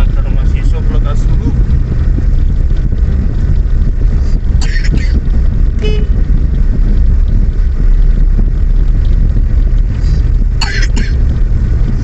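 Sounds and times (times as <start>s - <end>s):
road vehicle rumbling: 0.0s - 12.0s
wind buffeting microphone: 0.0s - 12.0s.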